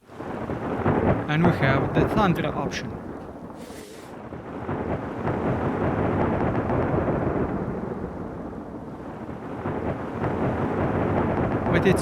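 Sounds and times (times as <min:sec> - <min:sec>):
deep rolling thunder: 0:00.0 - 0:12.0.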